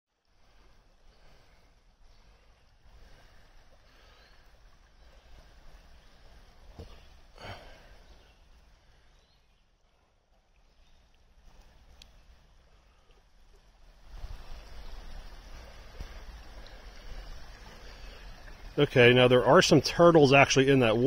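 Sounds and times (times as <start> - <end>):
creek running over rocks: 0.2 - 21.0.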